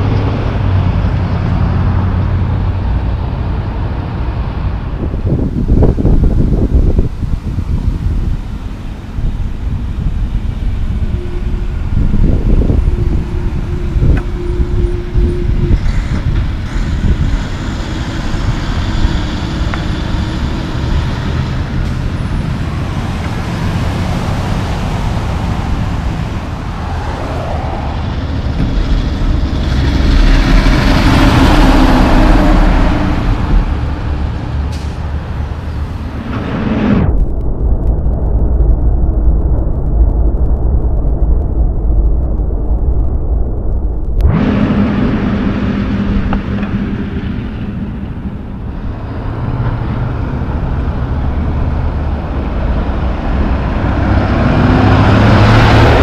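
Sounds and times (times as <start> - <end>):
loud truck passing: 0.0 - 37.2, 44.2 - 56.0
diesel truck engines: 0.0 - 37.8, 40.4 - 56.0.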